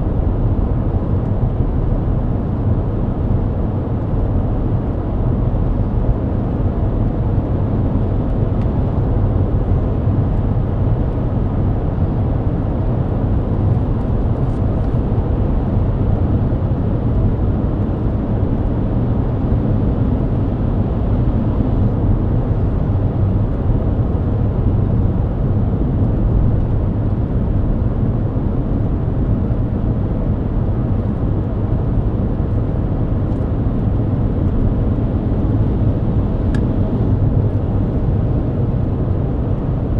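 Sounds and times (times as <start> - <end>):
car cabin road drone: 0.0 - 39.9.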